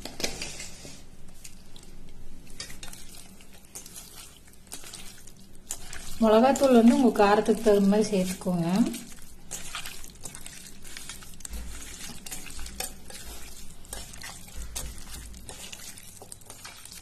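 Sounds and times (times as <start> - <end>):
wet squelching of hand mixing: 1.3 - 17.0.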